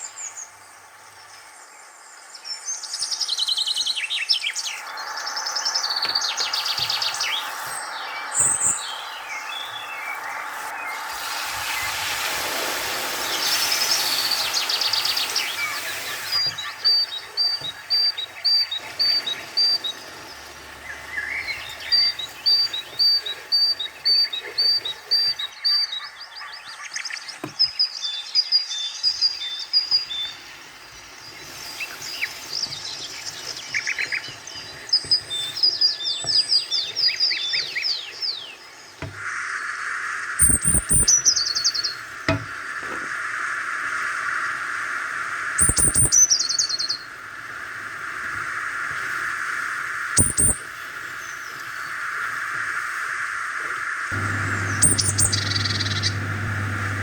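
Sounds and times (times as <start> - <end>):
small birds chirping: 0.0 - 57.0
hiss: 4.6 - 25.5, 29.2 - 57.0.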